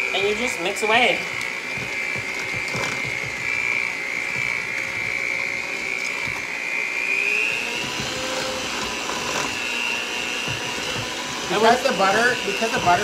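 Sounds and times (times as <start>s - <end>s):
electric hand mixer whining: 0.0s - 13.0s.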